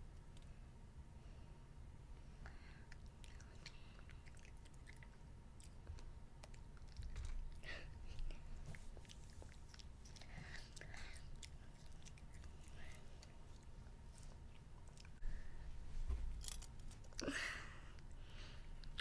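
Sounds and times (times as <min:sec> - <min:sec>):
child chewing: 0:02.4 - 0:15.2, 0:16.3 - 0:19.0.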